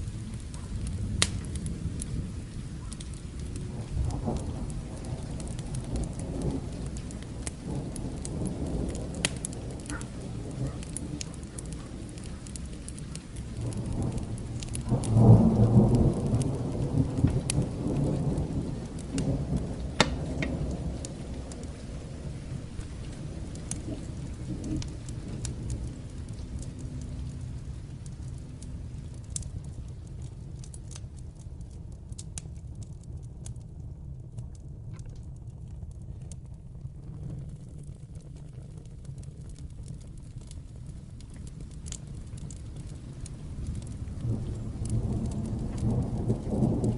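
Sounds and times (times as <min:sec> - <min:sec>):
fire crackling: 0:00.0 - 0:46.9
rolling thunder: 0:00.0 - 0:46.9
steady rain: 0:00.0 - 0:46.9.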